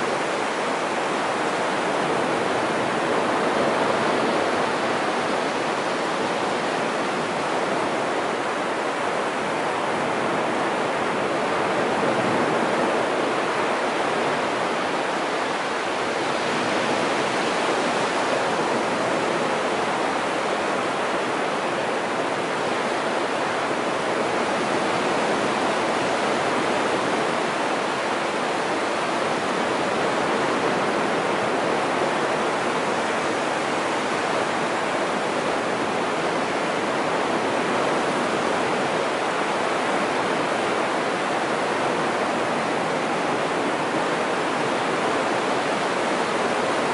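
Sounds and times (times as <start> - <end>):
waves breaking on beach: 0.0 - 46.9.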